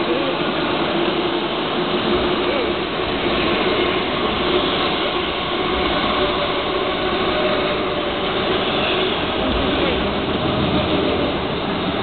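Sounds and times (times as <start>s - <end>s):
passing train rumble: 0.0s - 12.0s.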